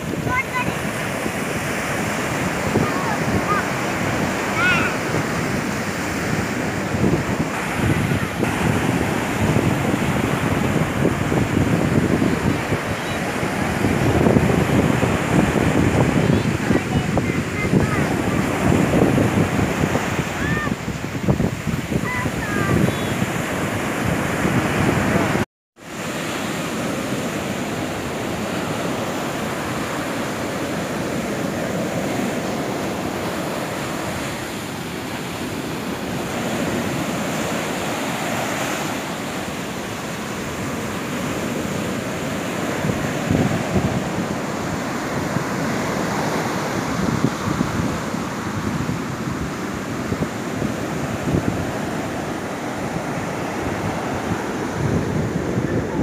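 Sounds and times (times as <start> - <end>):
ocean surf breaking on beach: 0.0 - 56.0
wind on microphone: 0.0 - 56.0.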